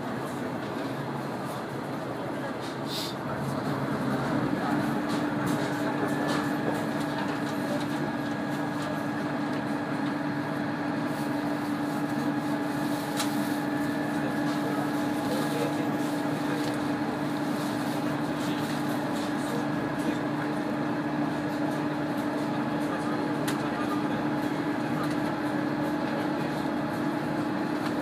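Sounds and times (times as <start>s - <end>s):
diesel railcar drone: 0.0s - 28.0s.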